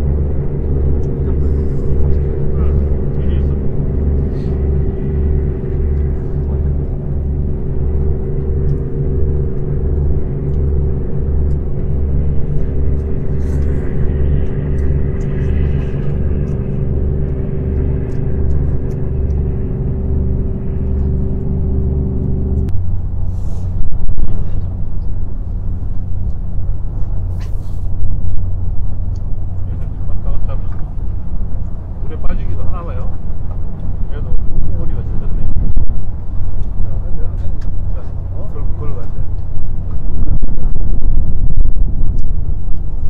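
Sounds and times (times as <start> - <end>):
engine throbbing: 0.0 - 43.0
low hum: 0.0 - 43.0.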